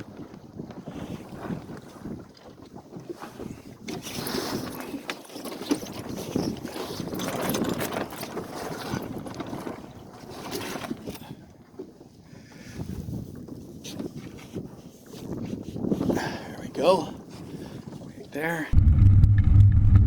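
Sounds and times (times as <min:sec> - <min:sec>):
water splashing against boat: 0:00.0 - 0:18.6
wind: 0:00.0 - 0:19.5.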